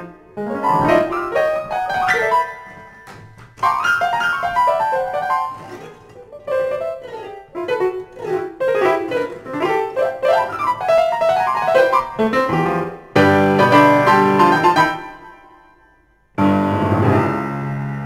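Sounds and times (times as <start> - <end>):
grand piano runs: 0.0 - 15.6, 16.4 - 18.0.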